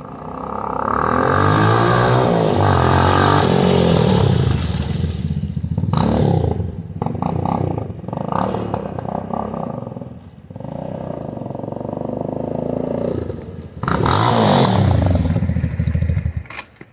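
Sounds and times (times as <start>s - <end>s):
motorcycle engine revving: 0.0s - 16.6s.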